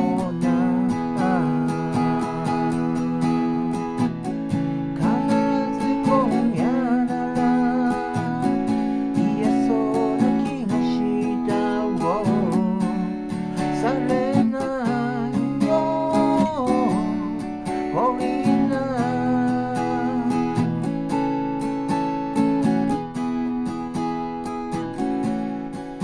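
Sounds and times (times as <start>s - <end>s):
person singing: 0.0s - 20.9s
acoustic guitar strumming: 0.0s - 26.0s.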